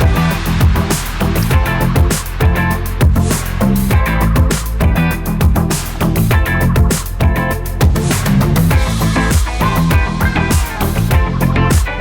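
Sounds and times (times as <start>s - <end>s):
guitar-driven rock music: 0.0s - 12.0s.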